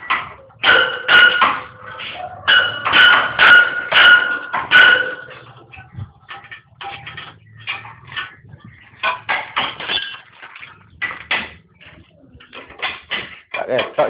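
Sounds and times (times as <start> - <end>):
metallic clanking and knocking: 0.0 - 14.0.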